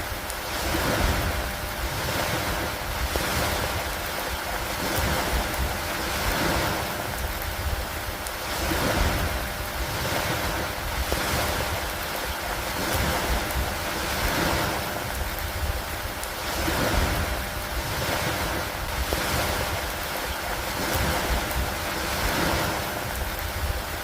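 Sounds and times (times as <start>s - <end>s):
lake water: 0.0s - 24.0s
rain on a wooden dock: 0.0s - 24.0s.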